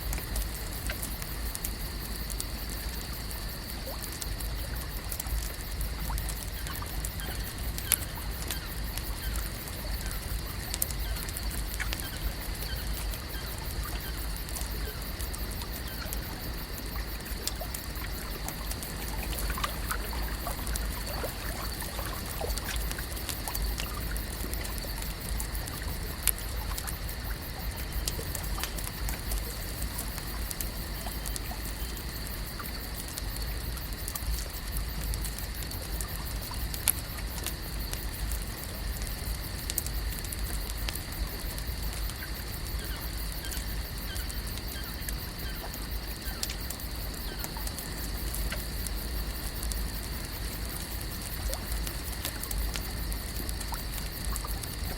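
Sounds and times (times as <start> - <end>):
small clicks and drips: 0.0 - 54.9
water trickling and lapping: 0.0 - 54.9.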